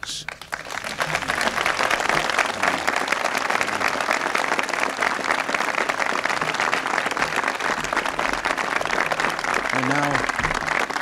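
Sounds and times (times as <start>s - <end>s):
crowd clapping: 0.0s - 11.0s
crowd cheering: 0.4s - 11.0s.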